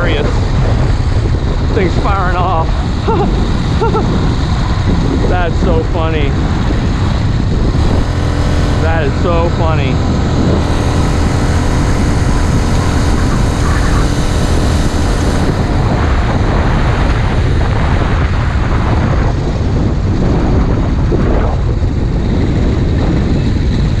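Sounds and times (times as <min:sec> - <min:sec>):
small four-stroke engine running: 0:00.0 - 0:24.0.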